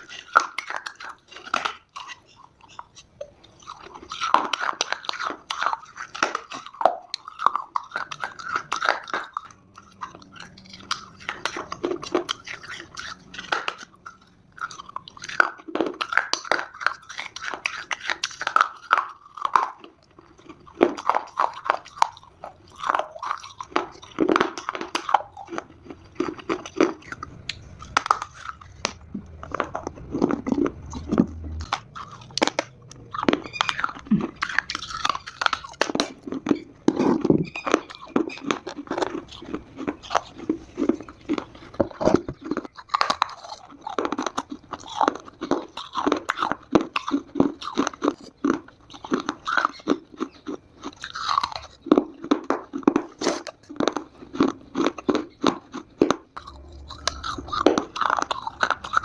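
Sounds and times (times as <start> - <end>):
chewing dry clay crunching: 0.0 - 59.0.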